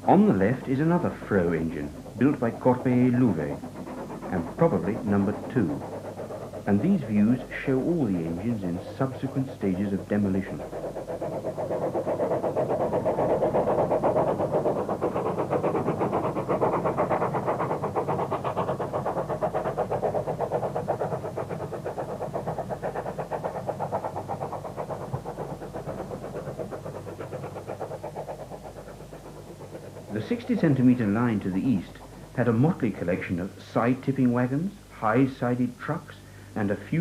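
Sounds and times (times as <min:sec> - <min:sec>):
engine running: 0:00.0 - 0:33.2.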